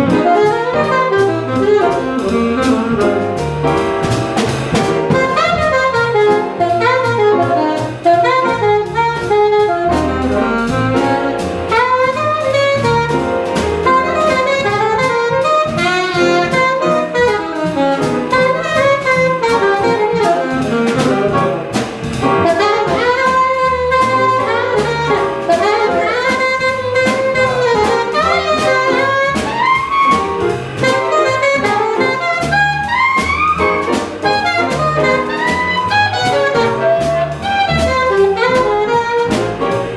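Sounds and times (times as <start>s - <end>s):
alto saxophone: 0.0s - 39.9s
drum kit: 0.0s - 39.9s
piano: 0.0s - 39.9s
upright bass: 0.0s - 39.9s.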